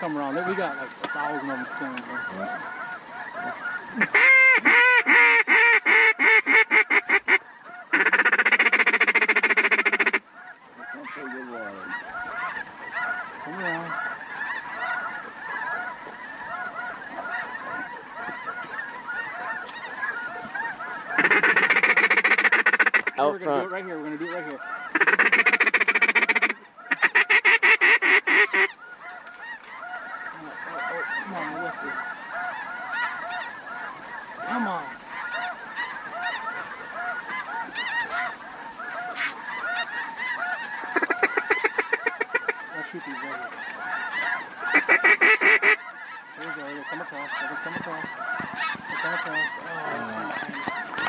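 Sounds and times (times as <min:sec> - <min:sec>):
fast chattering bird calls: 0:00.0 - 0:51.0
geese honking: 0:00.0 - 0:51.0.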